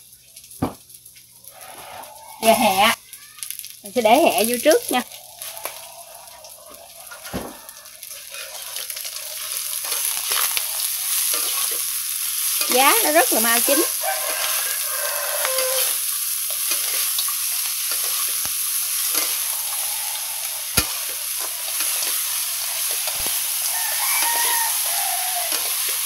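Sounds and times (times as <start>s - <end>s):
food sizzling in oil: 0.0s - 26.0s
metal spatula scraping pan: 4.7s - 26.0s.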